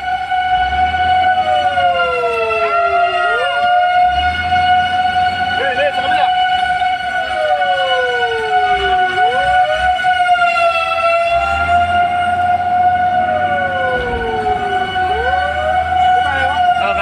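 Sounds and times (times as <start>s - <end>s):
fire engine sirens: 0.0s - 17.0s.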